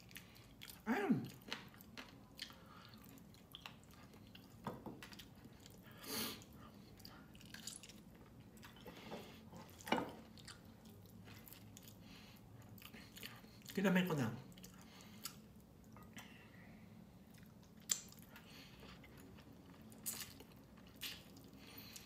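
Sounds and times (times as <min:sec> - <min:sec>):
person chewing with wet smacks: 0:00.0 - 0:16.4, 0:17.2 - 0:22.0.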